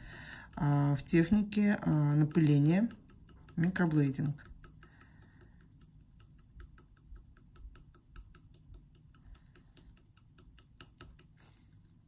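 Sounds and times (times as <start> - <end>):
microblading pen clicking: 0.0 - 11.4.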